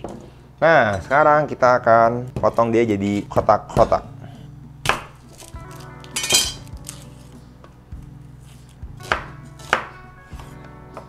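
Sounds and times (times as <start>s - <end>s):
background music: 0.4s - 11.0s.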